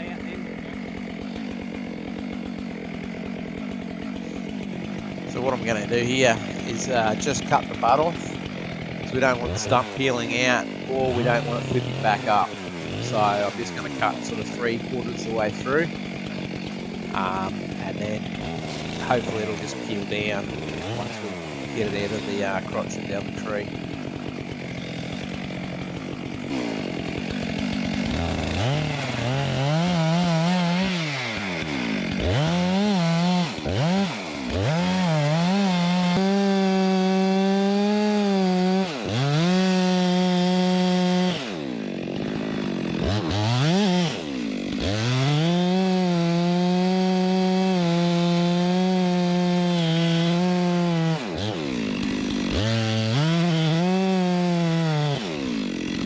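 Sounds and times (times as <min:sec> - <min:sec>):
chainsaw cutting at full throttle: 0:00.0 - 0:56.0.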